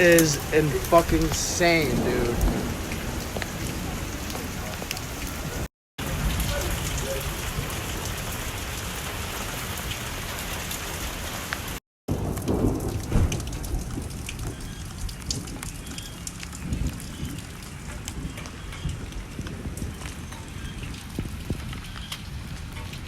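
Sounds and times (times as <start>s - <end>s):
wind gusts on microphone: 0.0s - 9.0s, 11.7s - 23.0s
raindrops hitting: 0.0s - 23.0s
torrential rain: 0.0s - 23.0s.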